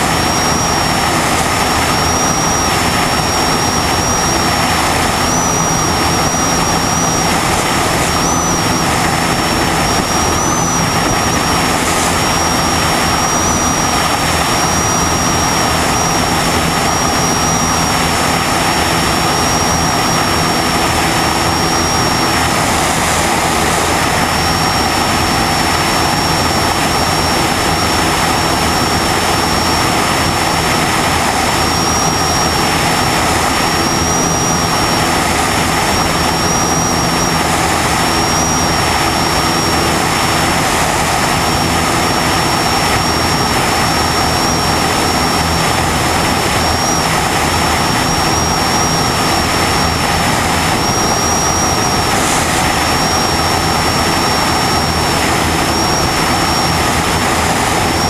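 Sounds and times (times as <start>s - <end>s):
thin high whistle: 0.0s - 57.2s
propeller aircraft engine drone: 0.0s - 58.0s
wind rush on microphone: 0.0s - 58.0s.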